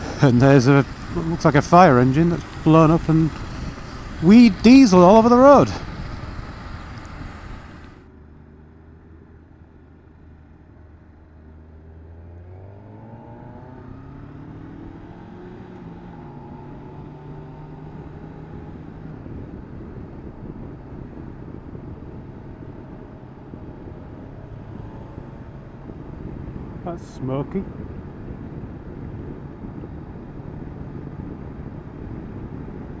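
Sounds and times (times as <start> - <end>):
motorcycle engine accelerating: 0.0 - 9.5, 10.8 - 33.0
wind and road noise: 0.0 - 33.0.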